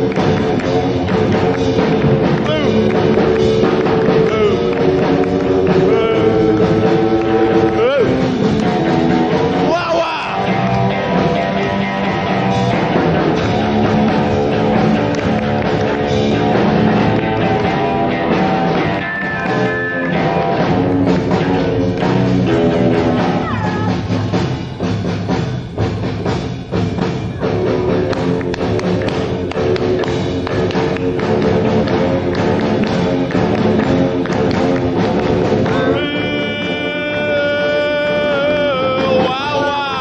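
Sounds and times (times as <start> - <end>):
rock band playing live: 0.0 - 40.0.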